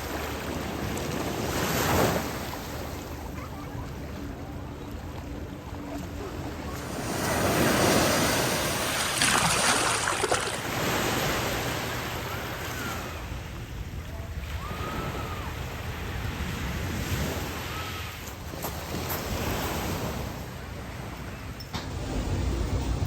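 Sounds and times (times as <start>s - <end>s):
waves breaking on beach: 0.0s - 21.2s.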